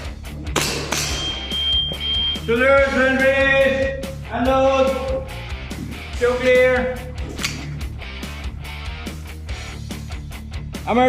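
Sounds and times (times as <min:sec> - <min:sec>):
rock music with electric guitar: 0:00.0 - 0:11.0.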